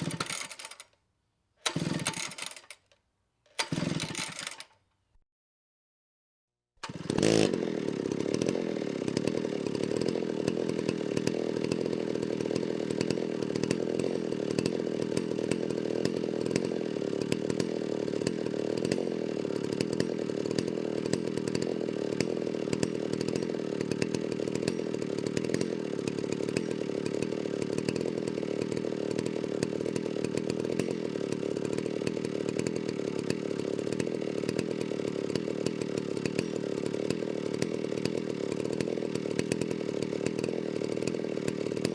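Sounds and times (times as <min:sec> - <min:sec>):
chainsaw running: 0:00.0 - 0:01.0, 0:01.6 - 0:04.9, 0:06.8 - 0:41.9.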